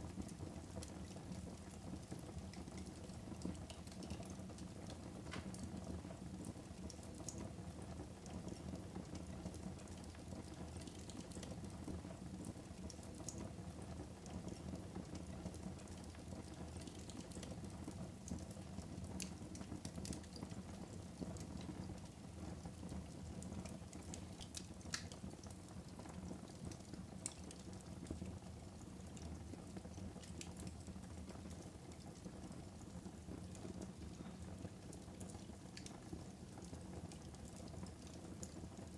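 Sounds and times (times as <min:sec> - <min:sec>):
fire crackles and pops: 0:00.0 - 0:38.9
wood fire burning: 0:00.0 - 0:38.9.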